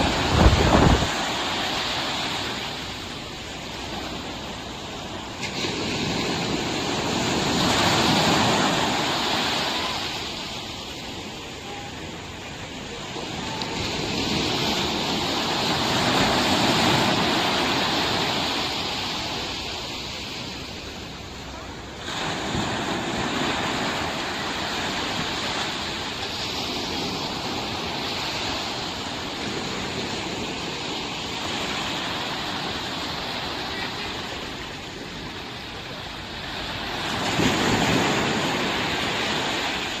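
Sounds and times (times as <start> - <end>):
ocean waves breaking: 0.0 - 40.0
wind: 0.0 - 40.0.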